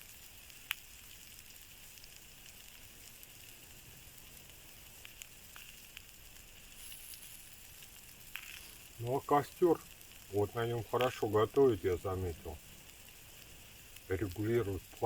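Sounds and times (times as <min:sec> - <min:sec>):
campfire sizzling hiss: 0:00.0 - 0:15.0
fire crackles: 0:00.0 - 0:15.0.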